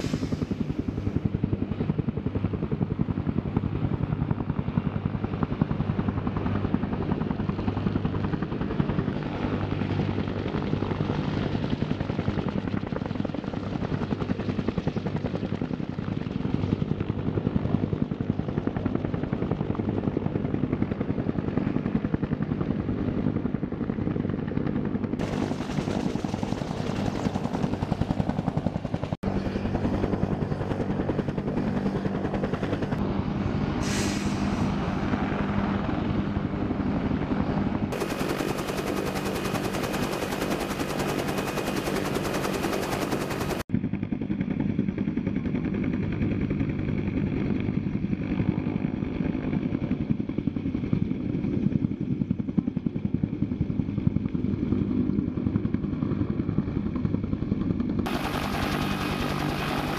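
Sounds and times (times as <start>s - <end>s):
helicopter rotor blades beating: 0.0s - 33.8s, 34.4s - 59.9s.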